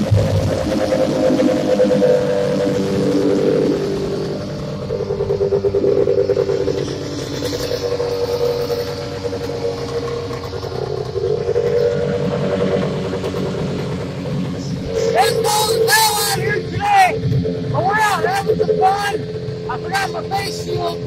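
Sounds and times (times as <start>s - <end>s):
snowmobile engine idling: 0.0s - 21.0s.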